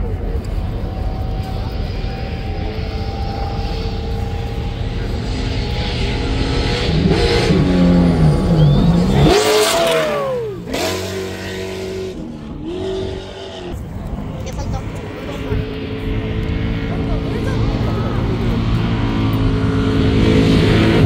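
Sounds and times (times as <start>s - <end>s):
truck engine passing at speed: 0.0s - 21.0s.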